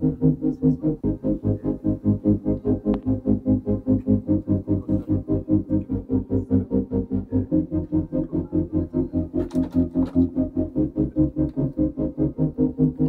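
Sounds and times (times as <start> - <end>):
pulsing chord music: 0.0 - 13.0.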